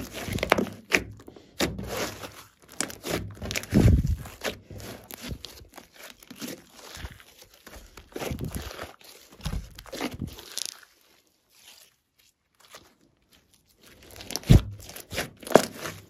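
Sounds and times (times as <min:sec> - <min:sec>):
slime squelching and clicking: 0:00.0 - 0:11.0, 0:12.5 - 0:16.0.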